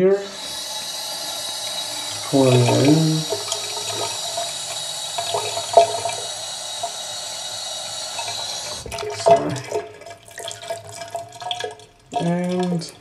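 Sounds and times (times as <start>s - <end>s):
tap water running into a tub: 0.2s - 13.0s.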